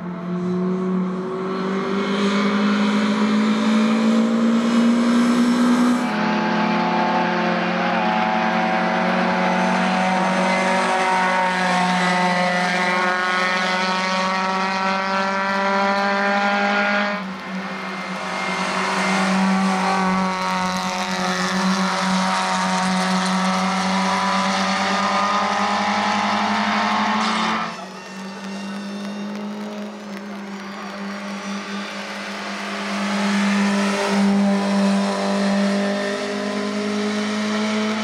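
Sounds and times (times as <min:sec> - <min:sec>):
race car engines at high revs: 0:00.0 - 0:38.0.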